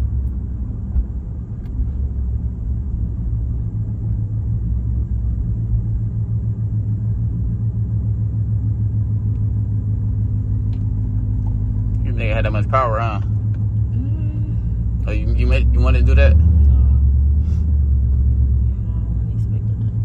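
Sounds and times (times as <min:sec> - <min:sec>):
car engine low drone: 0:00.0 - 0:20.0.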